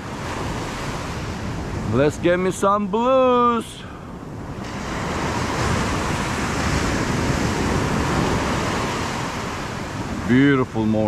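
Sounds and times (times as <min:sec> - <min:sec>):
ocean surf washing up beach: 0:00.0 - 0:11.0.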